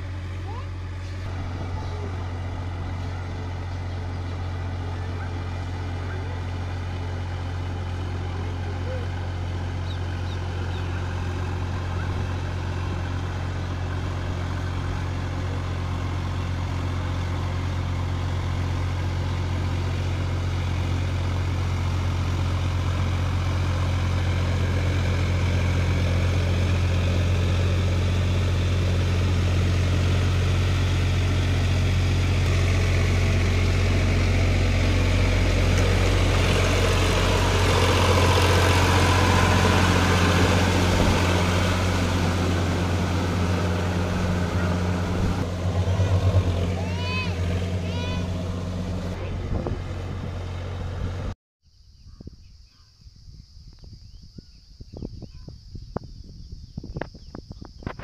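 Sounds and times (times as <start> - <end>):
tractor diesel engine running: 0.0 - 51.4.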